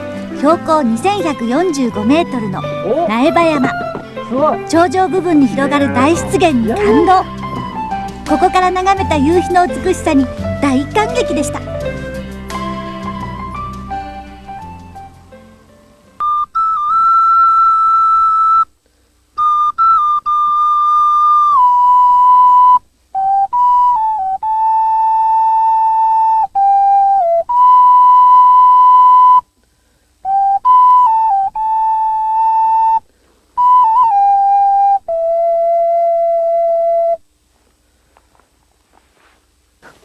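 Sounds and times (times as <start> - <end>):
solo flute melody: 0.0 - 15.4, 16.2 - 18.7, 19.4 - 29.5, 30.2 - 37.3.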